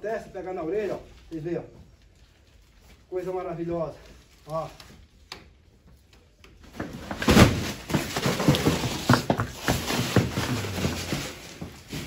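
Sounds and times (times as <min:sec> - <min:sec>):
plastic sheet rustling and crackling: 0:00.7 - 0:05.3, 0:06.9 - 0:12.0.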